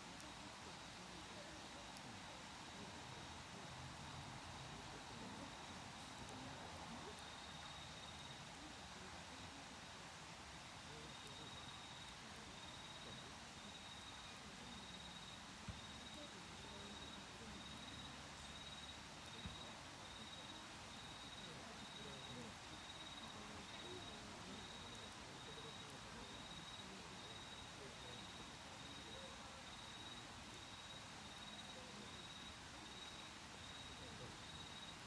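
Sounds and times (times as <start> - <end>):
wood fire hissing: 0.0 - 35.0
burning wood crackles: 0.1 - 35.0.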